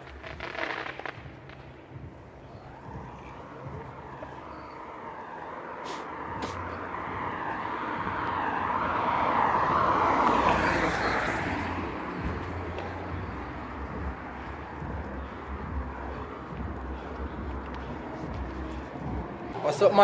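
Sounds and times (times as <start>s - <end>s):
vehicle passing by: 2.4s - 20.0s.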